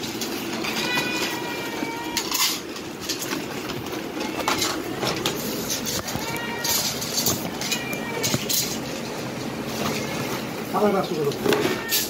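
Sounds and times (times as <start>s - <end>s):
cats meowing: 0.4s - 12.0s.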